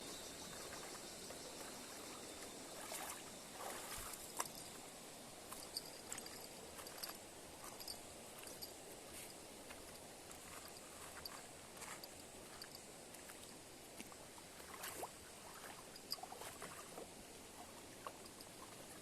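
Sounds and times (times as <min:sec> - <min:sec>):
faint river water rushing: 0:00.0 - 0:19.0.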